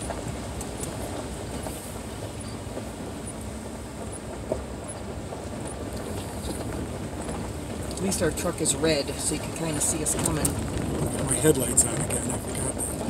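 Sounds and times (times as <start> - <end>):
truck engine and tyres rumbling: 0.0 - 13.0.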